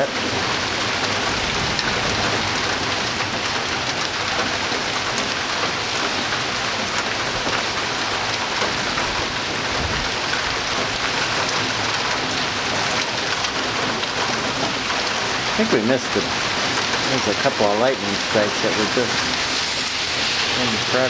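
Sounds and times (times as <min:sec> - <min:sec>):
heavy rain pouring: 0:00.0 - 0:21.0
raindrops pattering on surfaces: 0:00.0 - 0:21.0.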